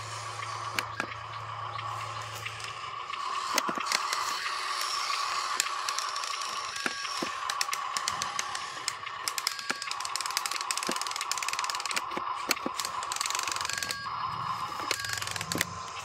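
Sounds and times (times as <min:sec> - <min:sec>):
electric motor whine: 0:00.0 - 0:16.0
low hum: 0:00.0 - 0:16.0.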